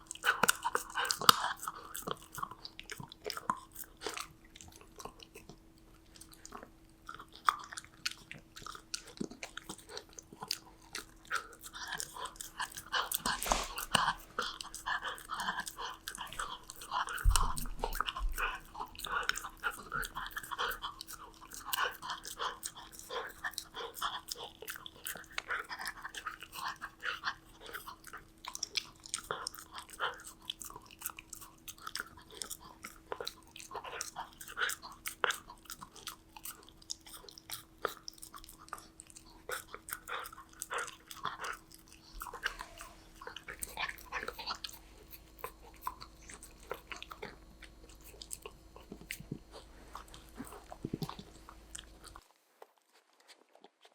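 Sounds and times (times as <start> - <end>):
dog chewing a treat: 0.0 - 53.9.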